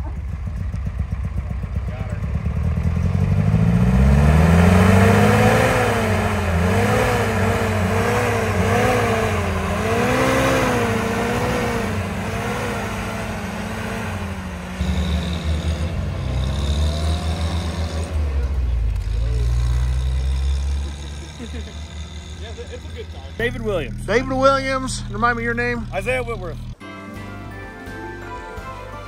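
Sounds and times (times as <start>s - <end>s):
jeep engine revving: 0.0s - 26.8s.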